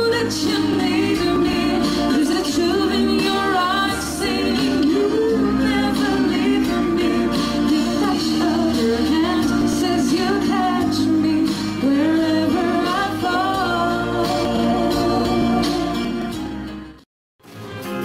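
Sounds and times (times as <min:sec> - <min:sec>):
instrumental backing music: 0:00.0 - 0:18.0.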